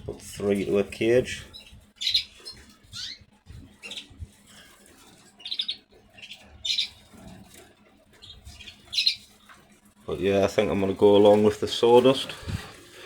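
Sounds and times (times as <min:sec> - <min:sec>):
canaries chirping: 0:00.4 - 0:12.4.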